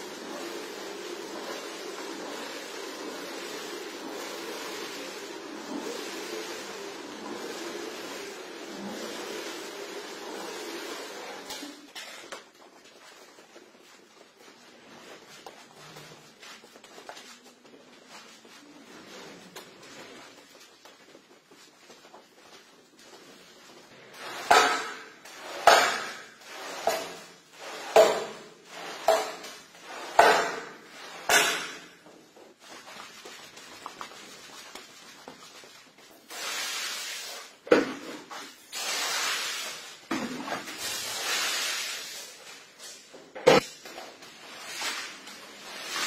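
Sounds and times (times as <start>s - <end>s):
squeegee scraping wet rug: 0.0s - 20.9s, 23.1s - 43.0s, 44.1s - 46.0s.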